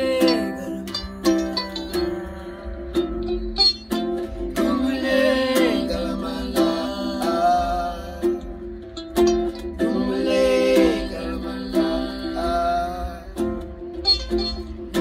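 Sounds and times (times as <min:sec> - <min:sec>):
plucked harp-lute: 0:00.0 - 0:15.0
ukulele strumming: 0:00.0 - 0:15.0.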